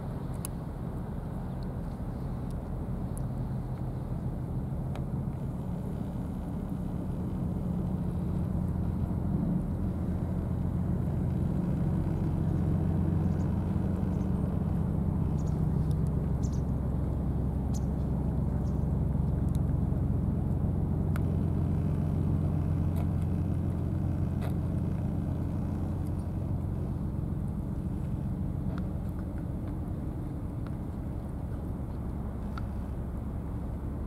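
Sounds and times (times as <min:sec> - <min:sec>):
low engine-like rumble: 0:00.0 - 0:34.0.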